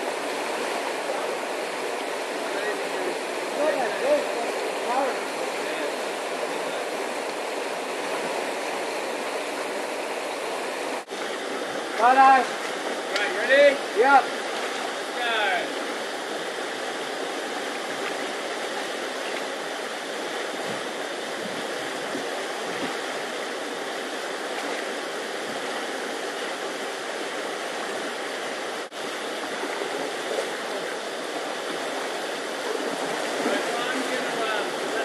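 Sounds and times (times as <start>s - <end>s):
river rushing over rapids: 0.0s - 35.0s.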